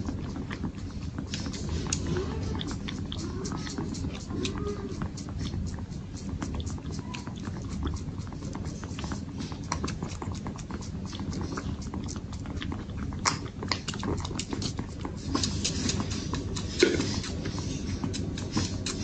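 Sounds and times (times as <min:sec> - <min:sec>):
kittens sucking wet clicks: 0:00.0 - 0:19.0.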